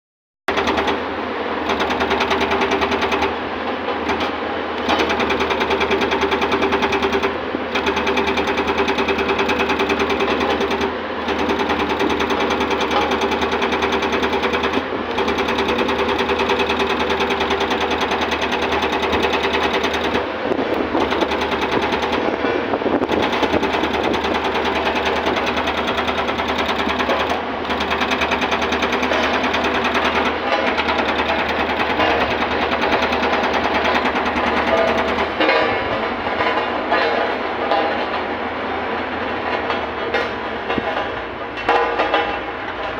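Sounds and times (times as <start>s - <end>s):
hydraulic breaker hammering rock: 0.5s - 38.0s.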